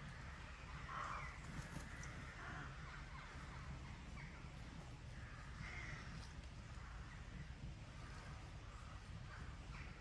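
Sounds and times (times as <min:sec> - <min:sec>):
faint harsh bird calls: 0:00.0 - 0:10.0
steady low rumble: 0:00.0 - 0:10.0.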